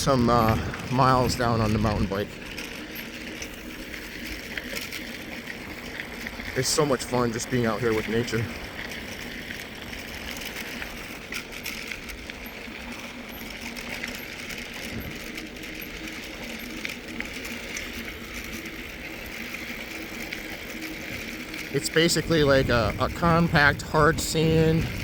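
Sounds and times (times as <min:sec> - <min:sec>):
mountain bike rolling on gravel: 0:00.0 - 0:25.0
small scattered clicks: 0:00.0 - 0:25.0.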